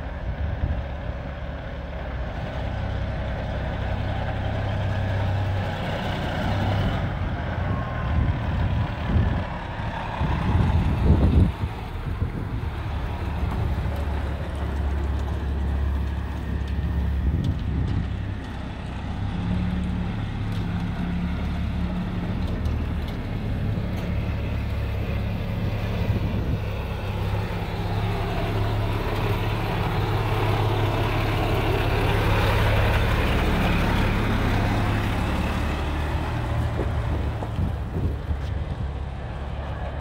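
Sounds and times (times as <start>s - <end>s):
diesel truck driving past: 0.0s - 40.0s.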